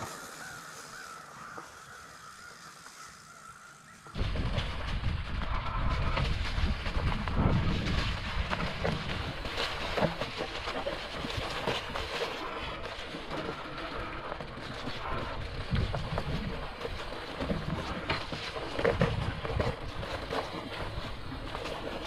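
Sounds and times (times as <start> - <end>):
bike rumbling and rattling: 4.0 - 22.0.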